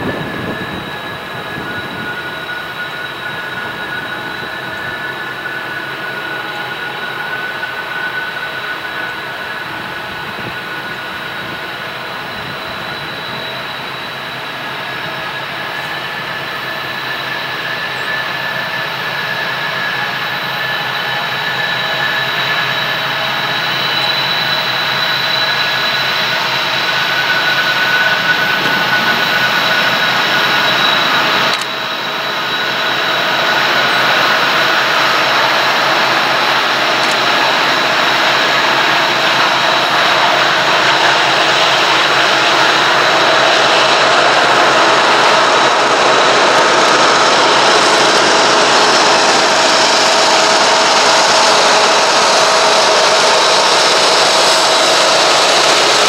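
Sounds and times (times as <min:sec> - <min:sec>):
diesel freight locomotive approaching: 0:00.0 - 0:56.0.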